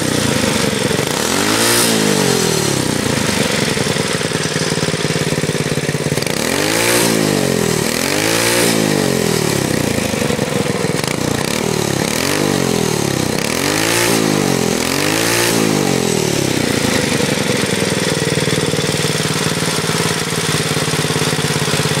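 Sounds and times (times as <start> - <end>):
small engine revving: 0.0 - 22.0.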